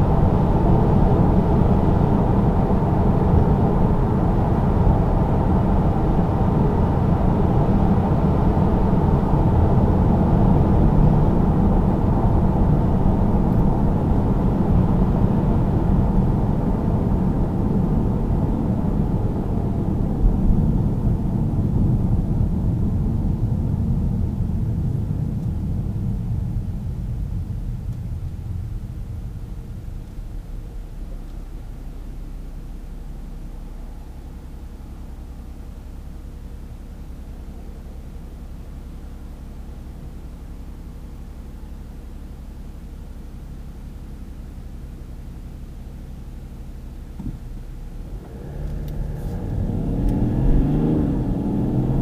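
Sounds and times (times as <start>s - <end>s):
diesel engine drone: 0.0s - 52.0s
road and tyre noise: 0.0s - 52.0s.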